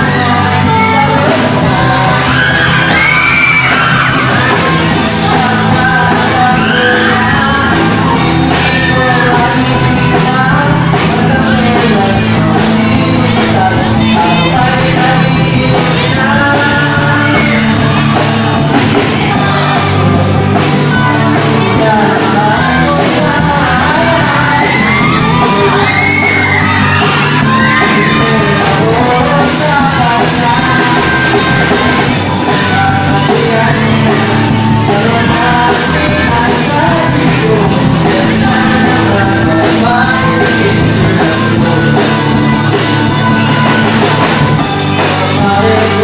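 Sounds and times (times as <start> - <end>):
live band playing: 0.0 - 46.0
man singing into microphone: 0.0 - 46.0.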